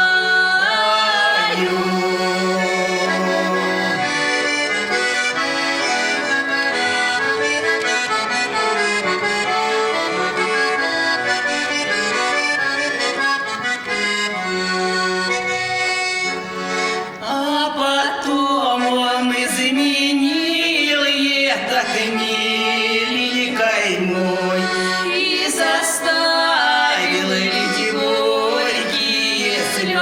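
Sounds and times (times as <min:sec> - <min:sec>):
accordion playing folk music: 0:00.0 - 0:30.0.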